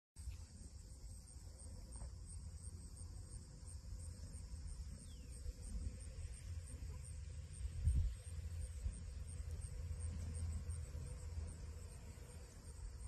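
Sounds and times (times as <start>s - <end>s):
faint low rumble: 0.2s - 13.0s
insect chirping: 0.2s - 13.0s.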